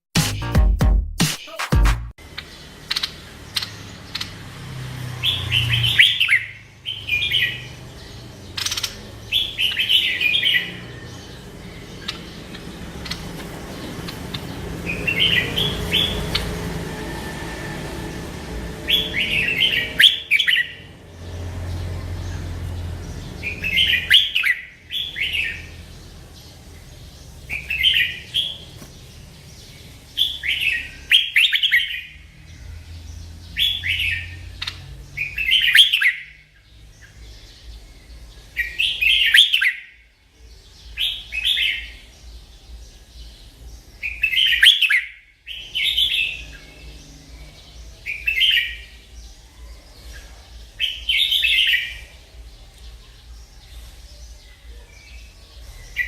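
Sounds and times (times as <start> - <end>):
bulbul singing: 0.2 - 56.0.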